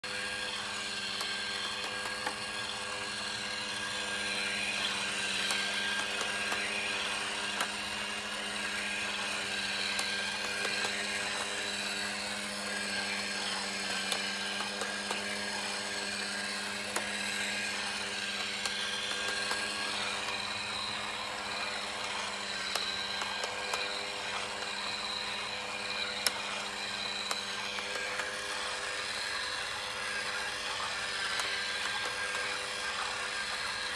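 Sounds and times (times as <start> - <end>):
small electric motor whirring: 0.0 - 33.9.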